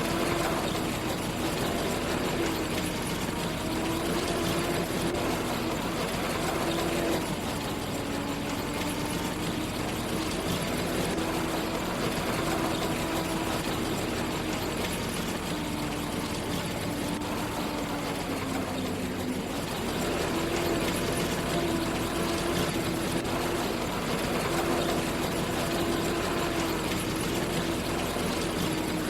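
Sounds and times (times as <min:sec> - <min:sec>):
farm machinery engine running: 0:00.0 - 0:29.0.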